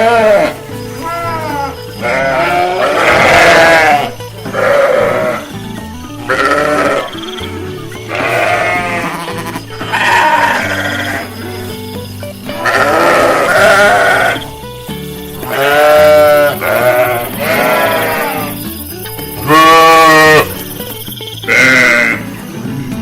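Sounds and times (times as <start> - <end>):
sheep bleating: 0.0 - 14.6, 15.2 - 23.0
background music with bass line: 0.0 - 23.0.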